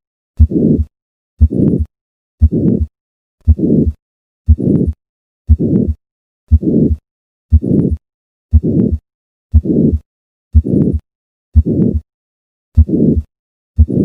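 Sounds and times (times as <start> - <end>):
heartbeat through stethoscope: 0.4 - 12.1, 12.8 - 14.0
systolic heart murmur: 0.4 - 12.1, 12.8 - 14.0.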